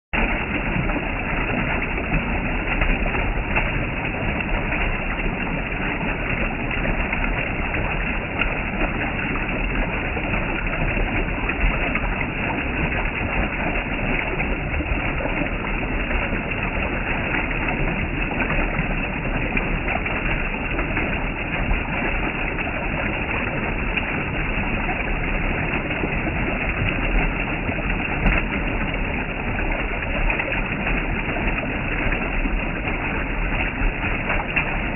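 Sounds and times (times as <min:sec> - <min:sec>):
rushing stream water: 0:00.2 - 0:34.9.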